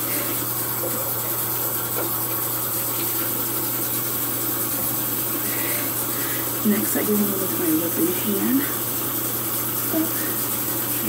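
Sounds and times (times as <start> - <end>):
water running from sink tap: 0.0 - 11.0.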